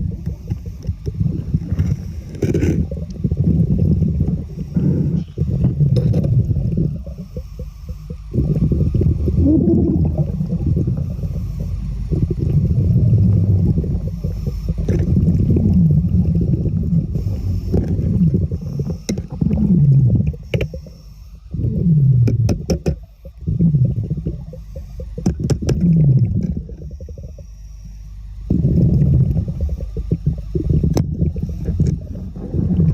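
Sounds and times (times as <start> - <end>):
underwater water gurgle: 0.0 - 32.9.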